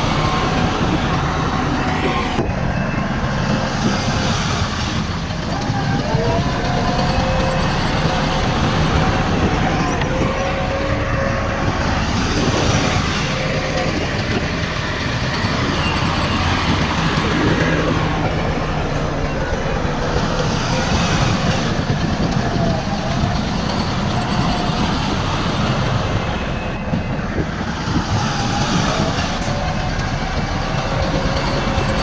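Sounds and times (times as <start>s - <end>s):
earthmoving machinery diesel hum: 0.0s - 32.0s.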